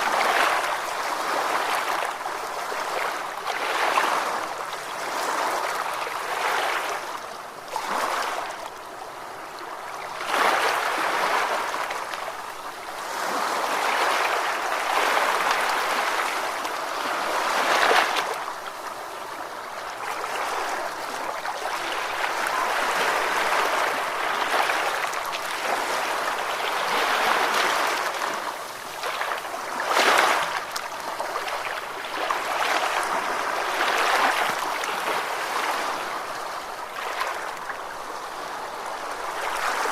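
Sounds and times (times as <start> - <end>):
waves breaking: 0.0 - 8.6, 10.2 - 39.9.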